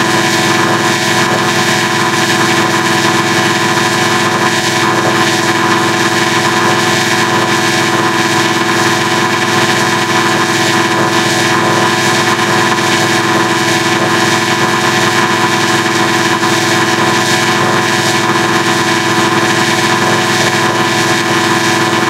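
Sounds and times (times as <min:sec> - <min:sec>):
loud distorted drone: 0:00.0 - 0:22.0.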